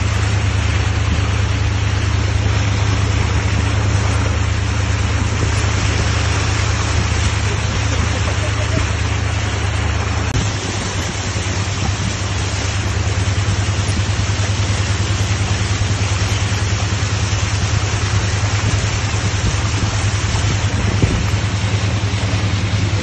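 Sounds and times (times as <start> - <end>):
vehicle engine running: 0.0 - 23.0
water rushing and splashing: 0.0 - 23.0.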